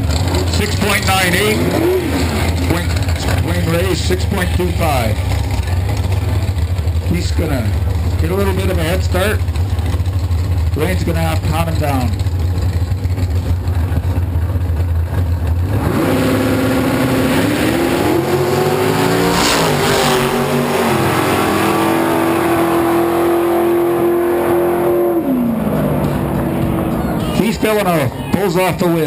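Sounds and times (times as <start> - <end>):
drag racing engines: 0.0 - 29.0.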